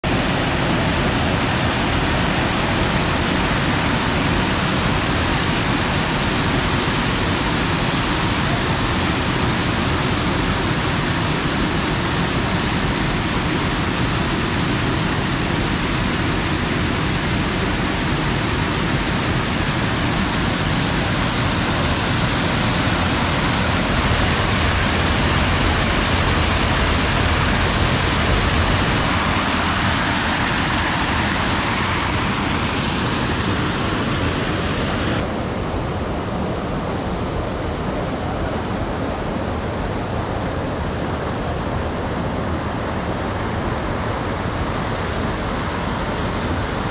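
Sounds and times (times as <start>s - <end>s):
water rushing over a weir: 0.0s - 46.9s.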